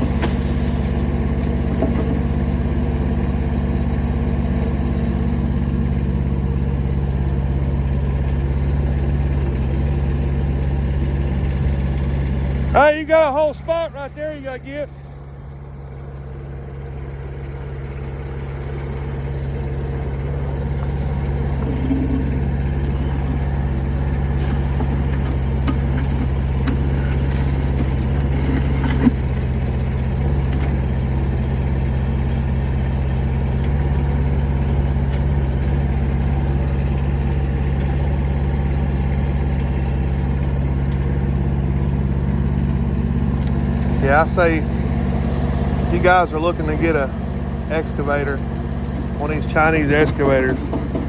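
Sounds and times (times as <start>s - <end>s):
mini excavator engine running: 0.0s - 51.0s.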